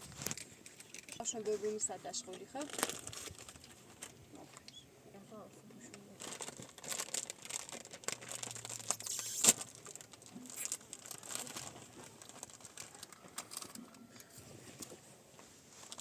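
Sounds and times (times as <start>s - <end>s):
rustling and crinkling: 0.0s - 16.0s.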